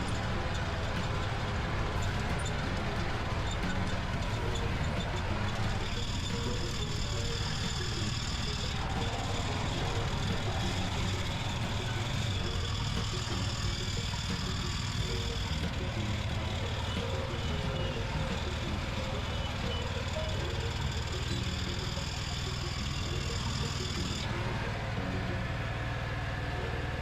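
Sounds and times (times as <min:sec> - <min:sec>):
small tractor engine running: 0:00.0 - 0:27.0.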